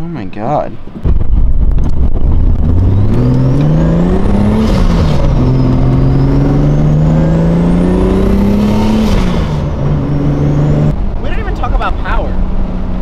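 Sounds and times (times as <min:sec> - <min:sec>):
car engine accelerating: 0:01.1 - 0:13.0.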